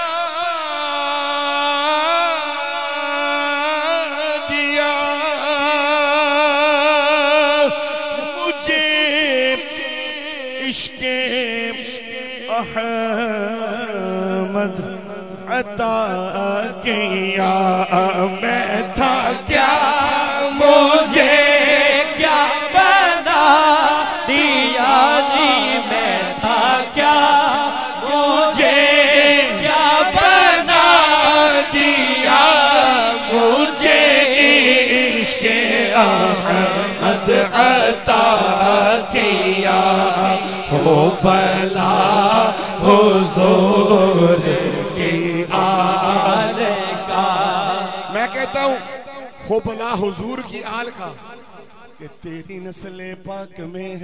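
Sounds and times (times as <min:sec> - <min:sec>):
man singing unaccompanied: 0:00.0 - 0:49.0.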